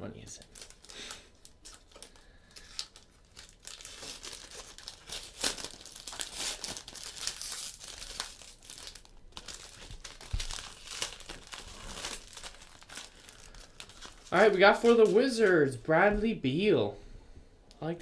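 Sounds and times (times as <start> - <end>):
foil wrappers crinkling and tearing: 0.2 - 15.8.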